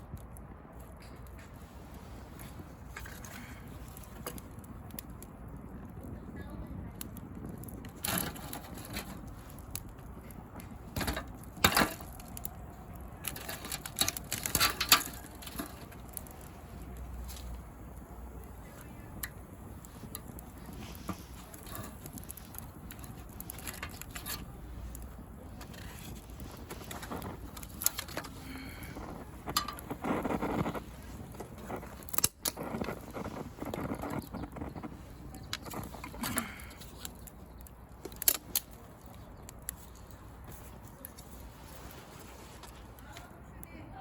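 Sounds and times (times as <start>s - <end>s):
bonfire crackling and popping: 0.0s - 44.0s
low fire rumble: 0.0s - 44.0s.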